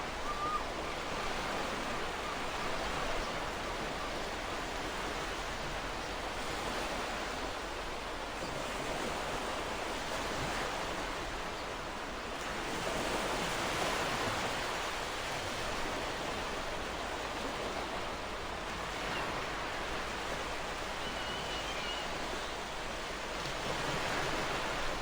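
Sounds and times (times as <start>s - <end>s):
ocean waves washing ashore: 0.0s - 25.0s.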